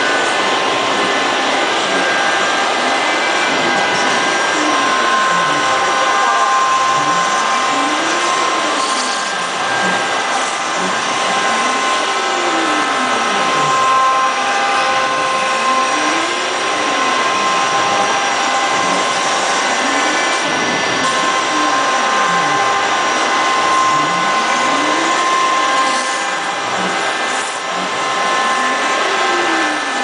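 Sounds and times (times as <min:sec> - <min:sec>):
motors sweeping in pitch: 0:00.0 - 0:30.0
router cutting noise: 0:00.0 - 0:30.0
spindle high whine: 0:00.0 - 0:30.0.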